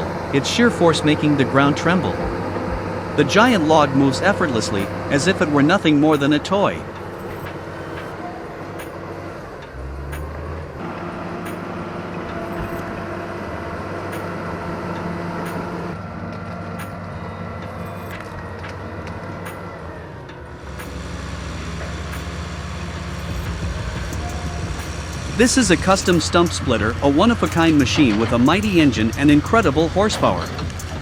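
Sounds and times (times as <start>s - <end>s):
tractor engine under load: 0.0s - 31.0s.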